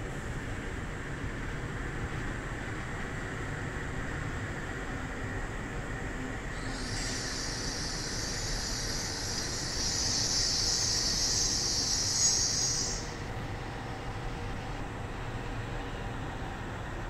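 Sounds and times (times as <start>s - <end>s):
train rumbling on the line: 0.0s - 17.0s.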